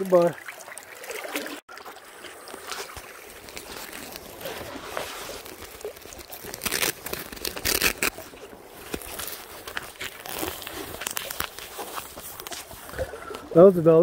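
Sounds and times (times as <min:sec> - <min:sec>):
rustling and crinkling: 0:02.2 - 0:14.0.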